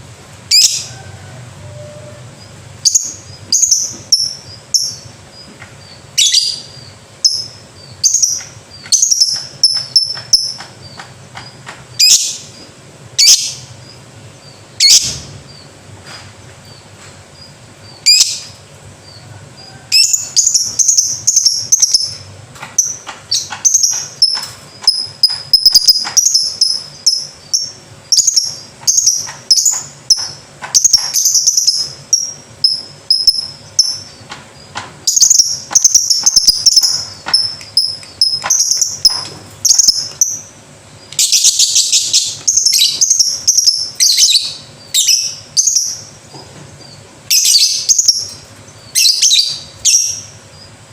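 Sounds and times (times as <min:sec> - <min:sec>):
lovebird chattering: 0:02.8 - 0:12.5, 0:17.4 - 0:19.2, 0:19.9 - 0:46.1, 0:46.8 - 0:50.7.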